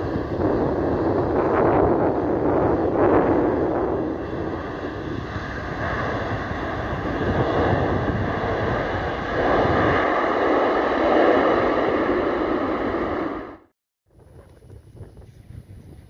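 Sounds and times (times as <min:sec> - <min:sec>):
jet engine whine: 0:00.0 - 0:13.7
loud rushing noise: 0:00.0 - 0:13.7.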